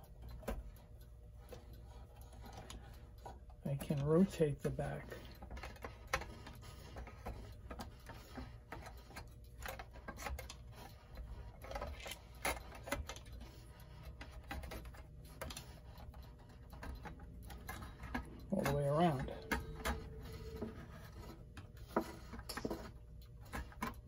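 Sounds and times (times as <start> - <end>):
small clicks and scrapes: 0.0 - 24.0.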